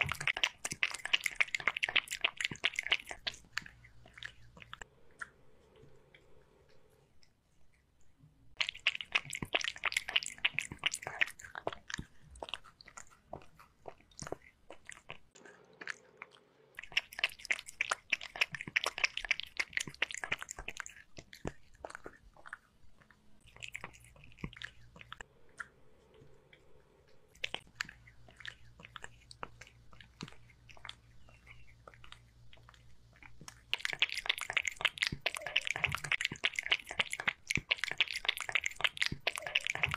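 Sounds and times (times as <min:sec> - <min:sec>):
kitten lapping from bowl: 0:00.0 - 0:06.4, 0:08.5 - 0:39.9.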